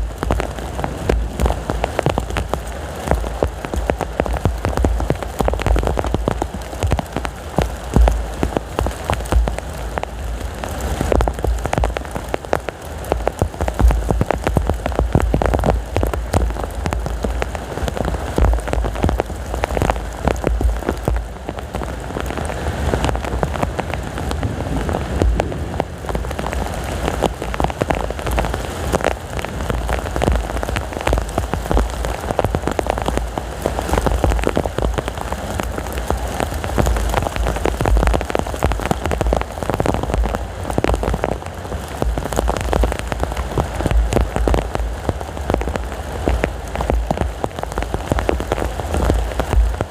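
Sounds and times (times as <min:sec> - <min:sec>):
heavy rain pouring: 0:00.0 - 0:49.9
strong wind rumble: 0:00.0 - 0:49.9.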